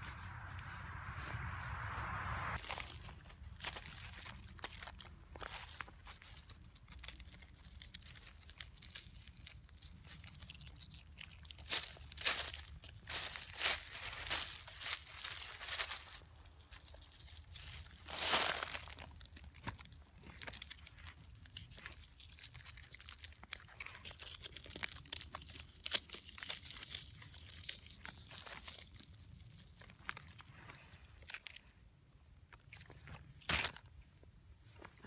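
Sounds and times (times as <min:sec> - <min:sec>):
crunching and rustling: 0:02.7 - 0:31.7, 0:32.4 - 0:35.0.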